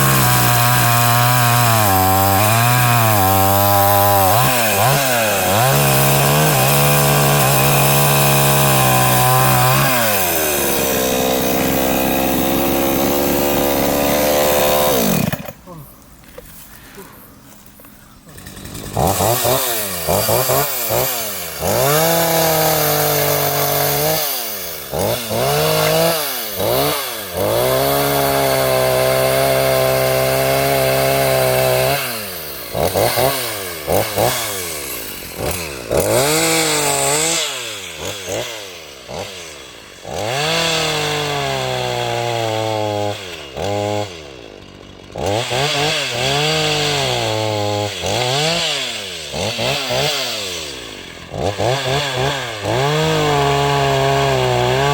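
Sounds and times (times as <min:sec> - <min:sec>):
chainsaw revving: 0:00.0 - 0:16.5, 0:18.2 - 0:54.9.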